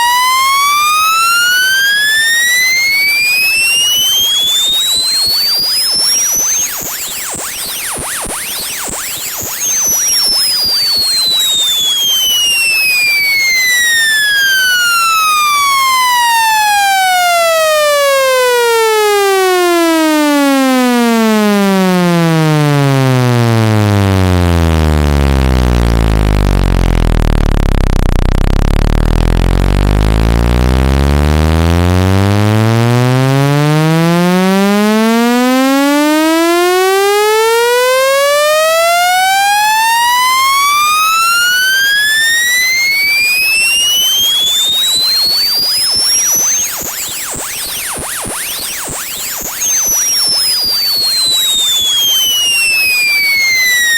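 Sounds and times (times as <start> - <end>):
sweeping buzzy test tone: 0.0 - 16.1, 21.8 - 38.2, 39.6 - 53.9.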